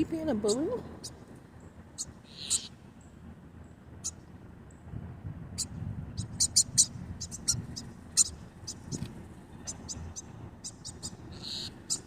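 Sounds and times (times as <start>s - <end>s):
small birds chirping: 0.0s - 4.9s, 5.5s - 12.0s.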